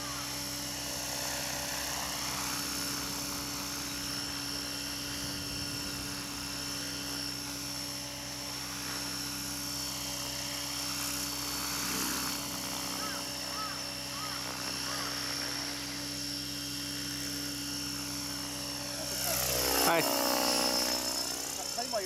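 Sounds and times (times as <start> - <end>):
electric motor whine: 0.0 - 22.0
rotor blades humming: 0.0 - 22.0.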